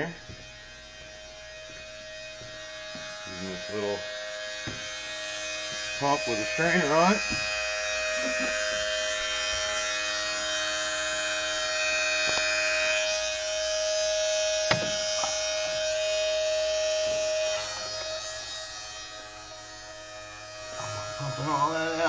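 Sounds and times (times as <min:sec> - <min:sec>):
electric pump whining: 0:00.0 - 0:22.0.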